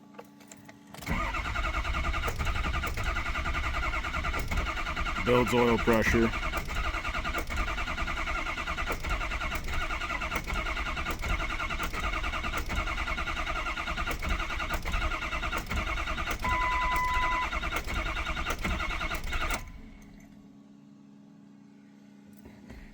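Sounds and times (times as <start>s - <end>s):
diesel engine cranking on starter: 1.0s - 20.3s.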